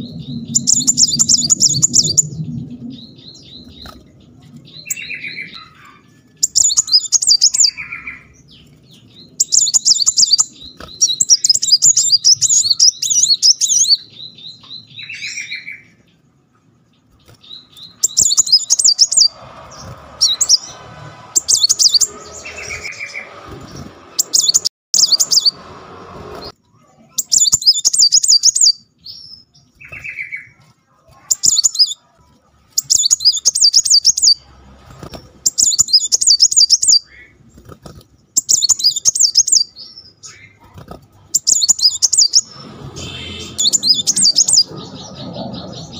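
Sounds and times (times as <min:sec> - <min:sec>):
sunbird trilling: 0:00.0 - 0:04.1, 0:04.7 - 0:16.0, 0:17.2 - 0:25.6, 0:26.3 - 0:30.5, 0:31.2 - 0:32.0, 0:32.7 - 0:34.4, 0:35.2 - 0:37.4, 0:38.4 - 0:45.9
bird chirps: 0:00.0 - 0:25.6, 0:26.3 - 0:45.9.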